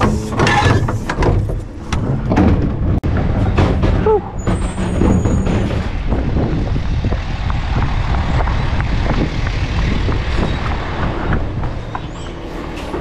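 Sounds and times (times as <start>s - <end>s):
garbage truck engine running: 0.0s - 13.0s
truck body rattling and knocking: 0.0s - 13.0s.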